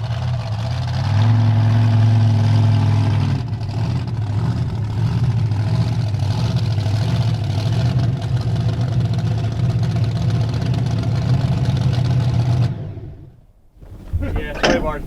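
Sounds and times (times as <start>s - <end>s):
truck engine running: 0.0s - 13.2s, 13.8s - 15.0s.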